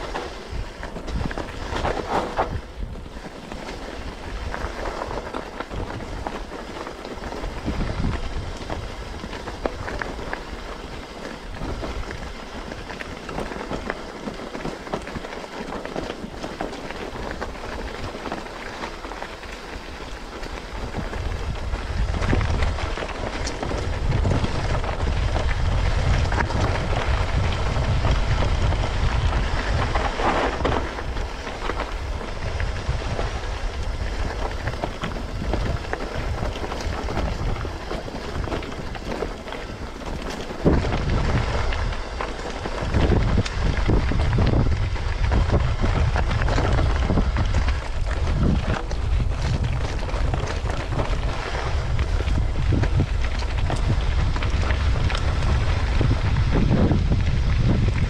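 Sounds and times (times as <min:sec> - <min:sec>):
bike rattling and knocking: 0:00.0 - 0:58.0
bike tyres crunching over gravel: 0:00.0 - 0:58.0
wind rumble on microphone: 0:00.0 - 0:58.0.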